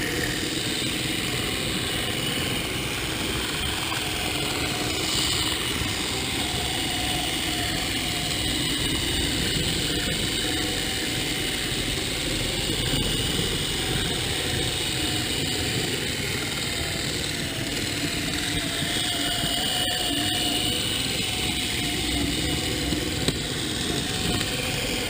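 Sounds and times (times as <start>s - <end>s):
model locomotive motor whine: 0.0s - 25.0s.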